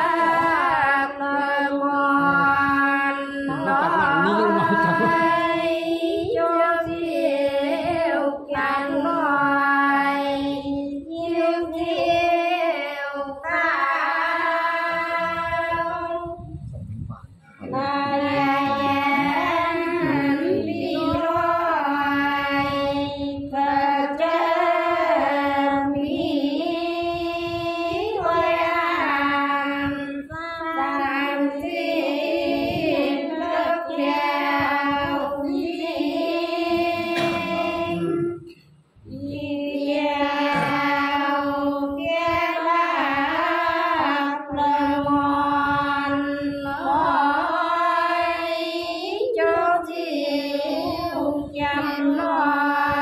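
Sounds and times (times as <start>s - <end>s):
women singing folk song: 0.0s - 16.6s, 17.6s - 53.0s.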